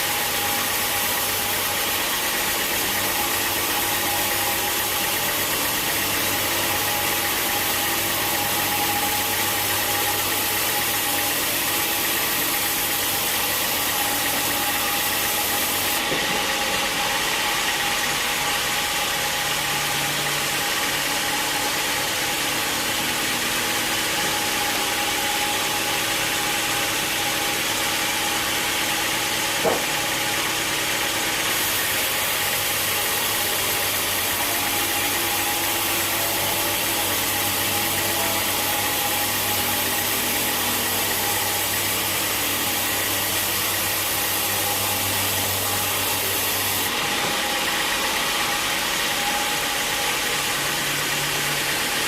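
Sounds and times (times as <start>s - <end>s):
sawmill machinery droning: 0.0s - 52.0s.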